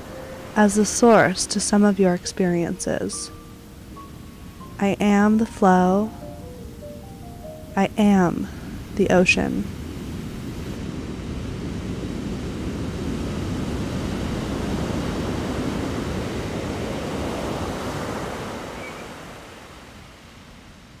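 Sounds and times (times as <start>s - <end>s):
ocean waves surf: 0.0s - 21.0s.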